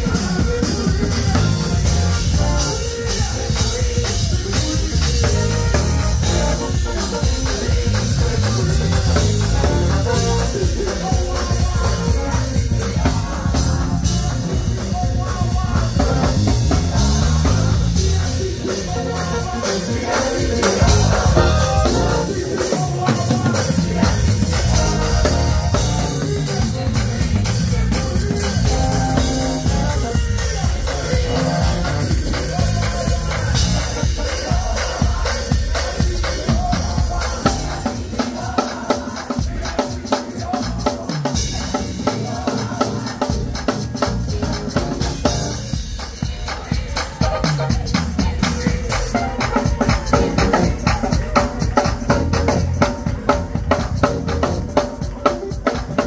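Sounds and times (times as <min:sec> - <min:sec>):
band playing: 0:00.0 - 0:56.0
choir singing gospel: 0:00.0 - 0:56.0
fast drum run: 0:00.0 - 0:56.0.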